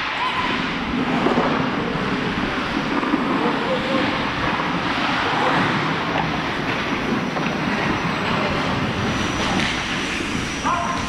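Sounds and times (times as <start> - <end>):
skates scraping on ice: 0.0 - 11.0
wind rushing over microphone: 0.0 - 11.0.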